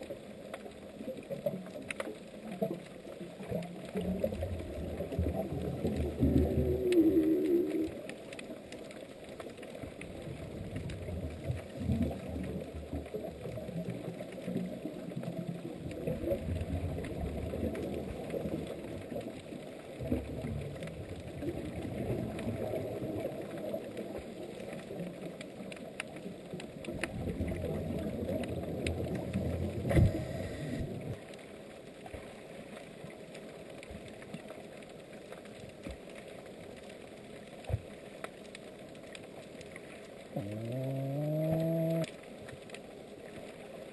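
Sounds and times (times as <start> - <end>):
low underwater humming pulses: 0.0 - 31.7, 39.3 - 43.9.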